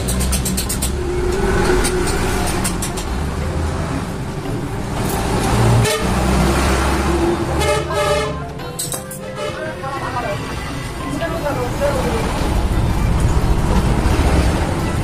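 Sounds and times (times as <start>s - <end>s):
passing traffic rumble: 0.0s - 15.0s.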